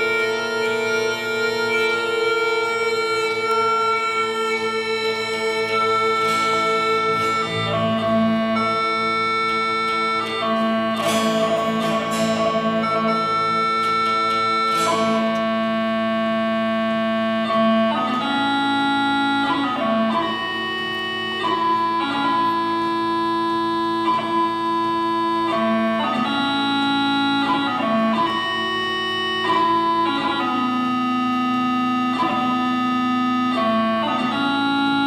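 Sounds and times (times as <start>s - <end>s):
folk band sustained chords: 0.0s - 35.0s
plucked notes: 0.0s - 35.0s.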